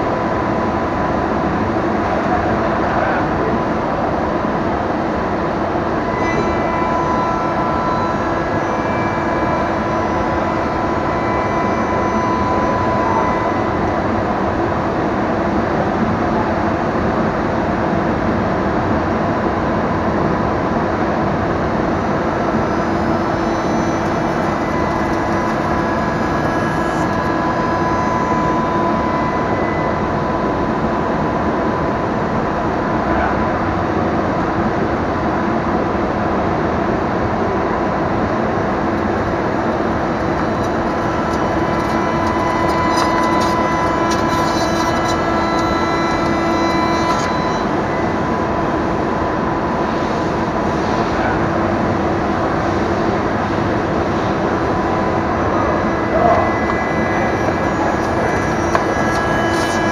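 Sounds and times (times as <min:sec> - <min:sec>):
cnc router machining wood: 0:00.0 - 0:59.9.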